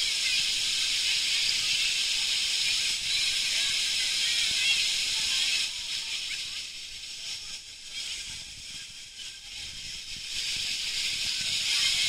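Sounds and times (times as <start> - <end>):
water spraying and pouring: 0.0 - 12.0.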